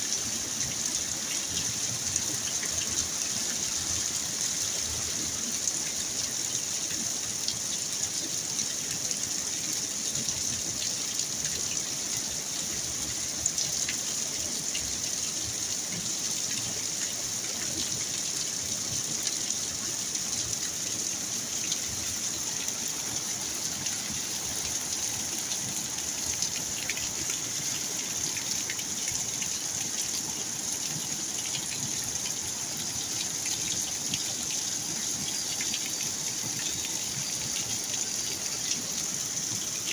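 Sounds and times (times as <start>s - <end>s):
water gushing: 0.0s - 39.9s.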